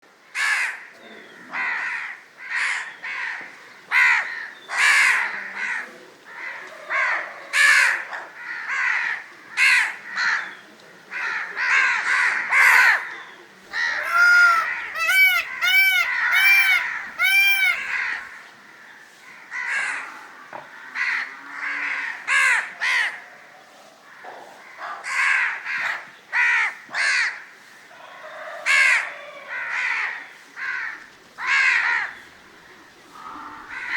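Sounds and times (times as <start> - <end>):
crows cawing: 0.4 - 0.9, 1.5 - 10.4, 13.8 - 23.2, 24.1 - 33.9.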